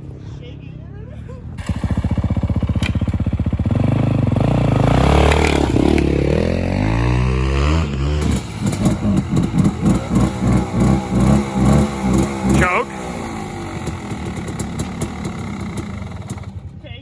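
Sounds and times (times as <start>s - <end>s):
dirt bike engine revving: 1.6s - 16.8s.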